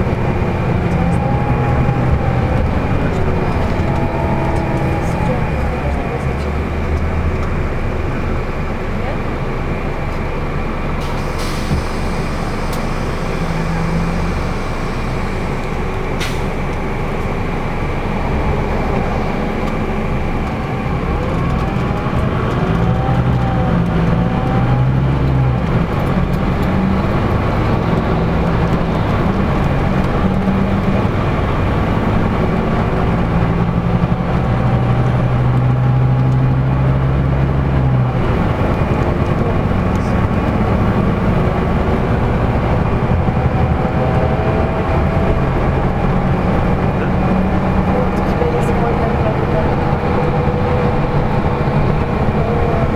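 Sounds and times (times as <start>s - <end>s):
tyre and road rumble: 0.0s - 10.3s, 11.0s - 52.9s
bus engine drone: 0.0s - 52.9s.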